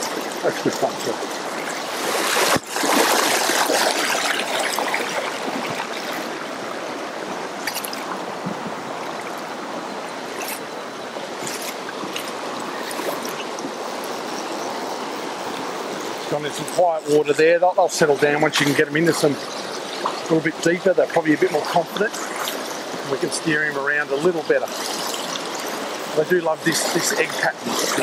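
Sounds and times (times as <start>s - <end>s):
river rapids rushing: 0.0s - 20.4s, 24.6s - 28.0s.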